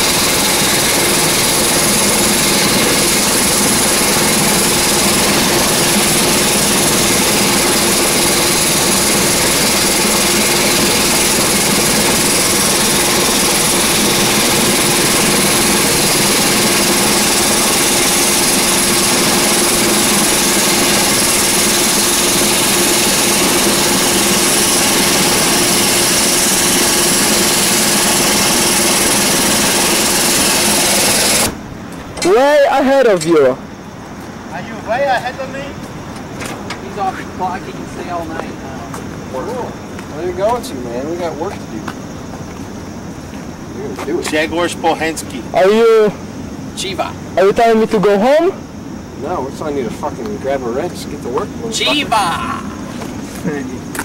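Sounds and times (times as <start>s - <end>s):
turboprop engines roaring: 0.0s - 54.0s.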